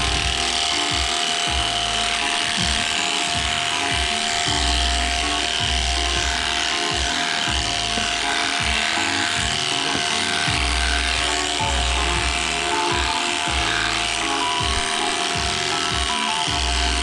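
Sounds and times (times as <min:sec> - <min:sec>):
background music with bass: 0:00.0 - 0:17.0
electric clippers buzzing: 0:00.0 - 0:17.0.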